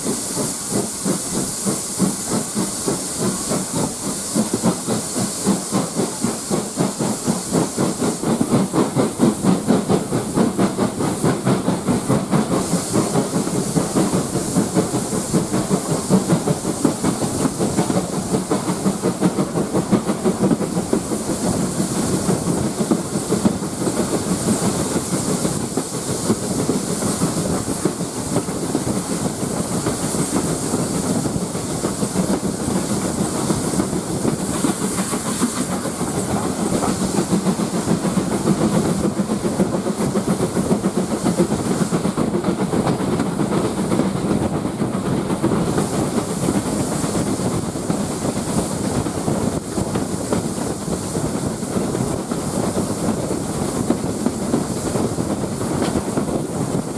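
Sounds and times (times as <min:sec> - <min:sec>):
steam hissing: 0:00.0 - 0:56.9
train wheels rumbling on rail: 0:00.0 - 0:56.9.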